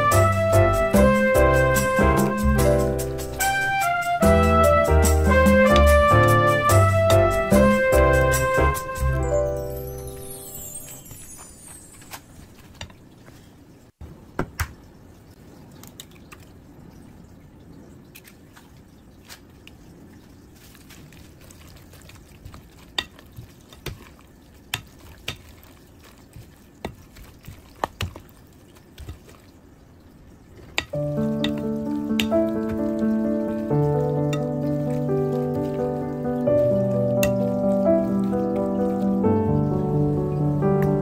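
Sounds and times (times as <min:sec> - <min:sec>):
wet rustle of vegetables: 0:00.0 - 0:14.0, 0:14.7 - 0:41.0.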